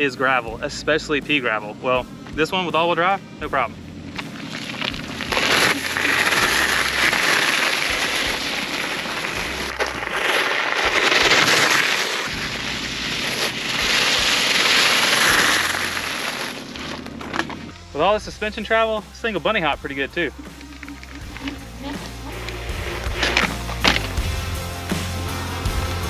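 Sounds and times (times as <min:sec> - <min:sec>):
scooter tyres crunching gravel: 0:01.3 - 0:24.6.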